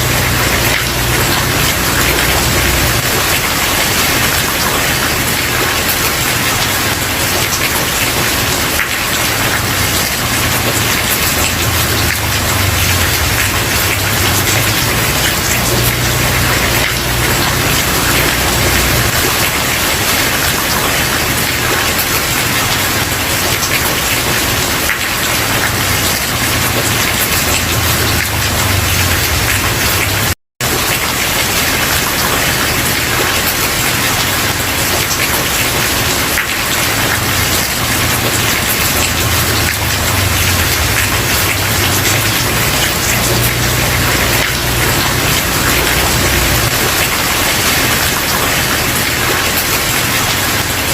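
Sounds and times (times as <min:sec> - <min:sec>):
rain on a wooden porch: 0:00.0 - 0:50.9.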